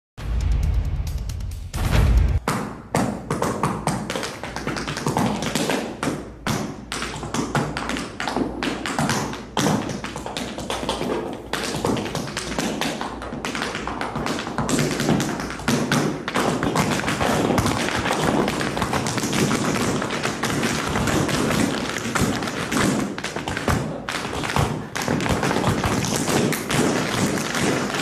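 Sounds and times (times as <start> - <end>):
tap shoes on wooden floor: 2.5 - 28.0.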